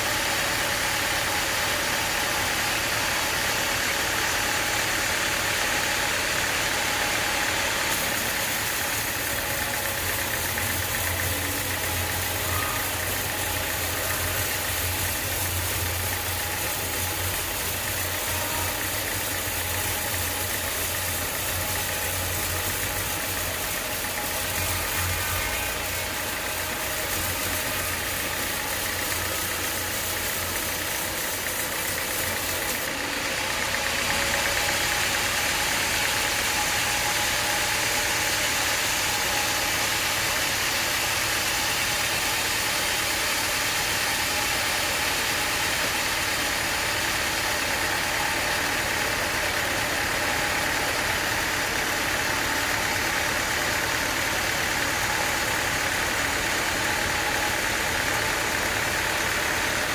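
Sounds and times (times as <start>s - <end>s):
sawmill blade droning: 0.0s - 59.9s.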